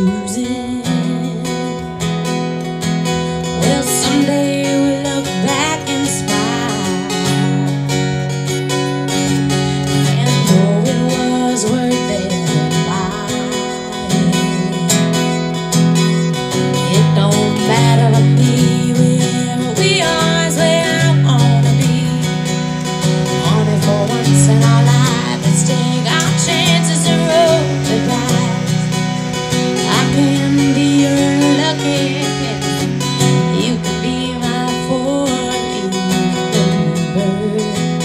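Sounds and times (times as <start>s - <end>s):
person singing: 0.0s - 2.0s, 3.3s - 7.6s, 9.9s - 38.0s
acoustic guitar strumming: 0.0s - 38.0s.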